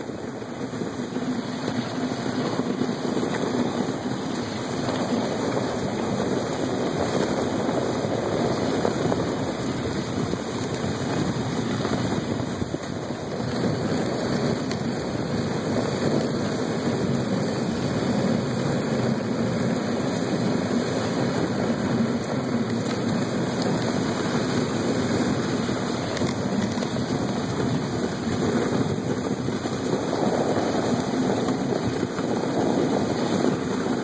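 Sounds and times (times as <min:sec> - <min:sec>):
sled runners sliding over snow: 0:00.0 - 0:34.0
wind on microphone: 0:00.0 - 0:34.0.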